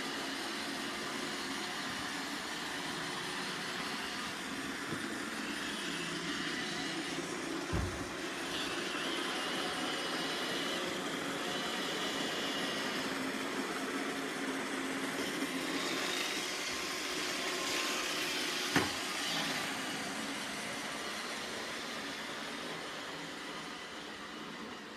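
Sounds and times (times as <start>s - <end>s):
robot vacuum whirring: 0.0s - 24.9s.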